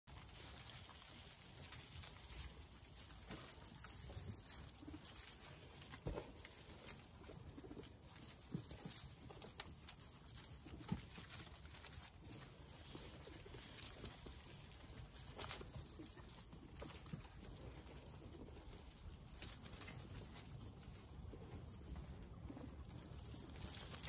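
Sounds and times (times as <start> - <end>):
guinea pigs crunching carrot: 0.1 - 24.0
rustling of grass and straw: 0.1 - 24.0.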